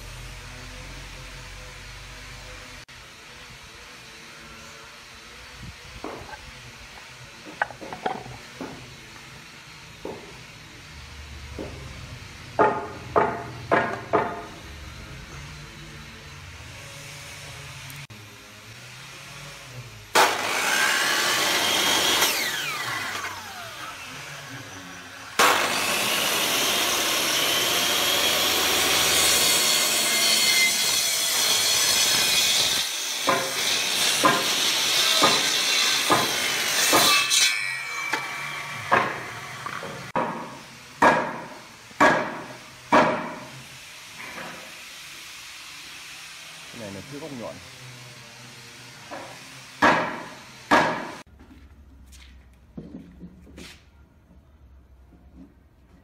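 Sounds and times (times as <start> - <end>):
miter saw cutting wood: 0.0 - 51.2.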